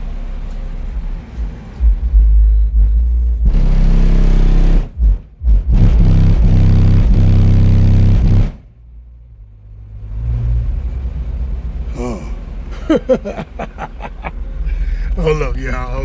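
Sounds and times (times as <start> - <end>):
car subwoofer deep bass: 0.0 - 16.0.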